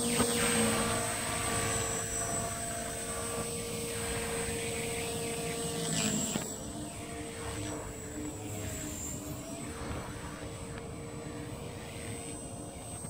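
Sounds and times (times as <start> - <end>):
rc helicopter rotor whine: 0.0 - 13.0.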